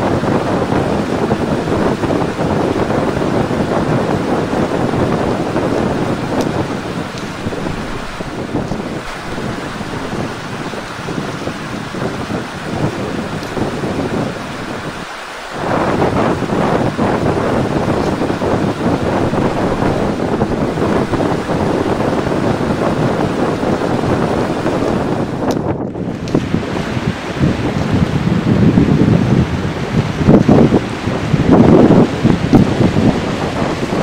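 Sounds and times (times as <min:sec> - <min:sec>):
river rushing over stones: 0:00.0 - 0:34.0.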